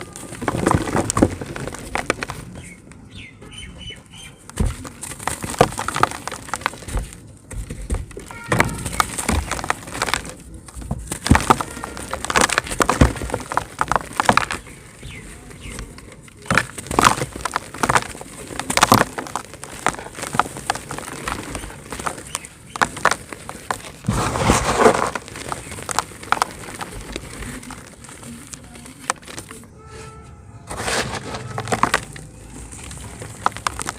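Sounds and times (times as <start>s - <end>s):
cement chunks crumbling and cracking: 0.0s - 29.7s, 30.7s - 33.9s.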